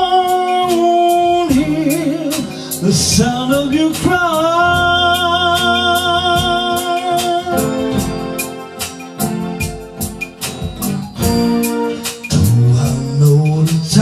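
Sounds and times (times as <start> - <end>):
piano and organ chords: 0.0 - 14.0
steady drum beat: 0.0 - 14.0.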